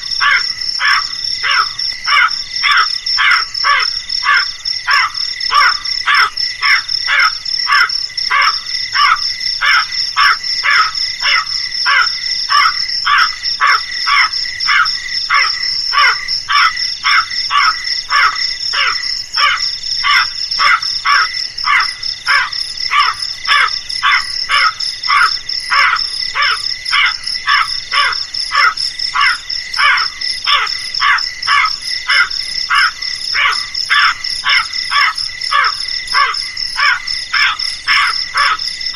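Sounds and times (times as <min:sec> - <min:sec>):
crow cawing: 0:00.2 - 0:38.6.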